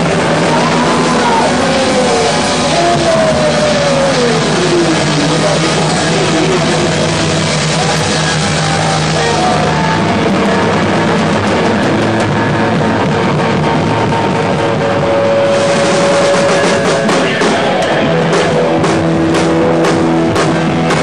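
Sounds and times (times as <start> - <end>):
distorted electric guitar: 0.0 - 21.0
drums: 0.0 - 21.0.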